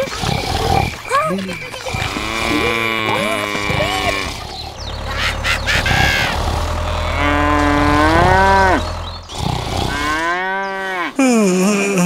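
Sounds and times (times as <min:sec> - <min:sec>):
cows mooing: 0:00.0 - 0:11.9.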